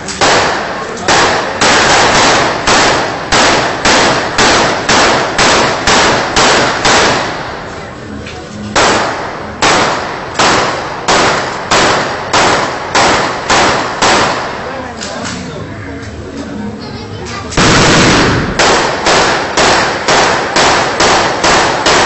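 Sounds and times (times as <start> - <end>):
shotgun gunshots echoing: 0.1 - 7.6, 8.8 - 14.7, 17.6 - 22.0.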